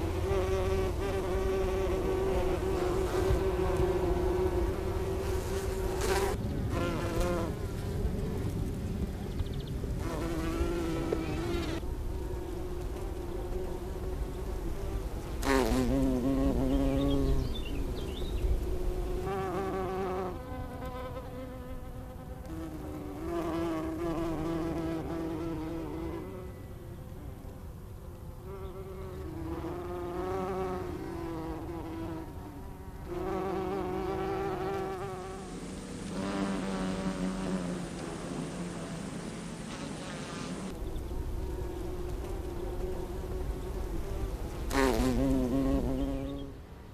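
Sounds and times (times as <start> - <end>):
bumblebees buzzing: 0.0 - 46.9.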